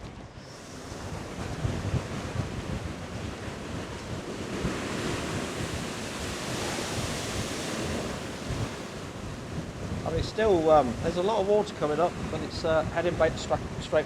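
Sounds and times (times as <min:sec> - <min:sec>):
gusty wind on microphone: 0:00.0 - 0:14.0
storm waves against a sea wall: 0:00.0 - 0:14.0.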